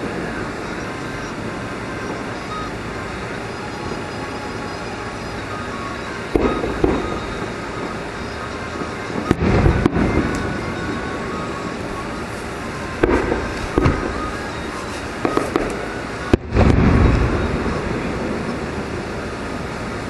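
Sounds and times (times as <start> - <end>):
fireworks bangs: 0.0 - 20.0
steady background rumble: 0.0 - 20.0.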